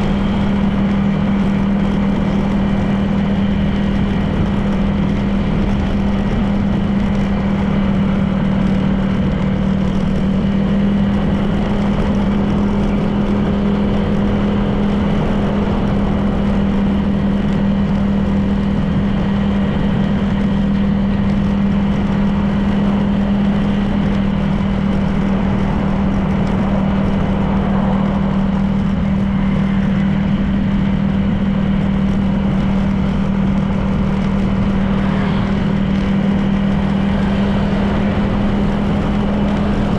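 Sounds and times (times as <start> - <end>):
road and wind noise: 0.0 - 39.9
scooter engine cruising: 0.0 - 39.9.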